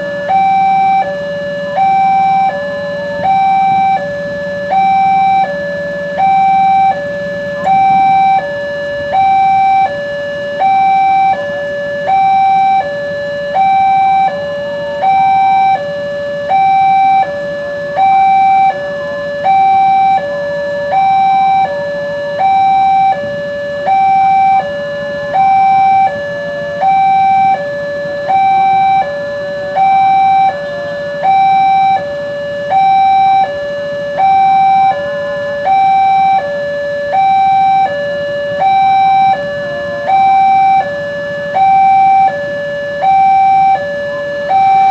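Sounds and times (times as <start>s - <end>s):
level crossing alarm: 0.0s - 44.9s.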